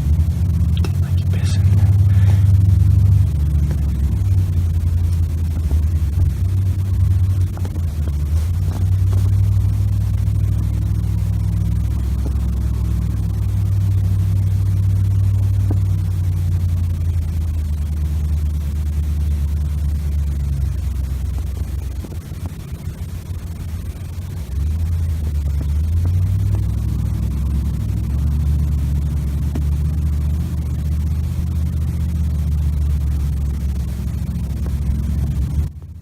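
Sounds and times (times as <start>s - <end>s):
loud low rumble: 0.0s - 36.0s.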